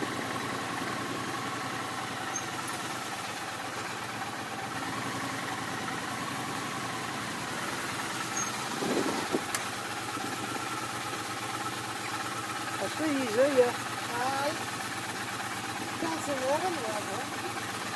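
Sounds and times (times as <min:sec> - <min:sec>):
vehicle engine idling: 0:00.0 - 0:17.9.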